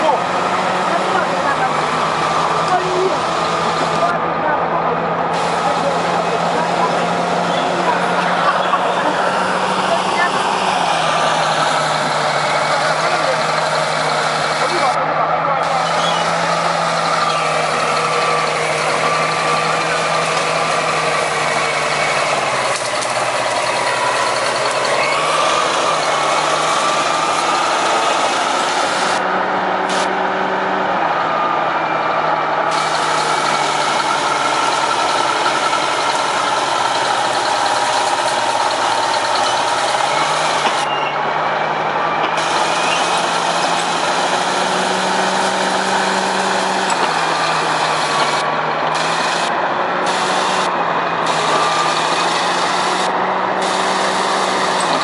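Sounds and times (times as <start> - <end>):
heavy construction machinery engine: 0.0 - 55.0.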